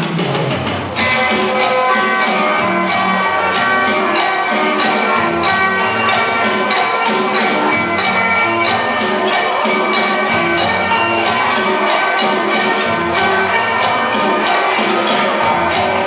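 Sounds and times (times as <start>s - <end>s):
music with held notes: 0.0s - 16.0s.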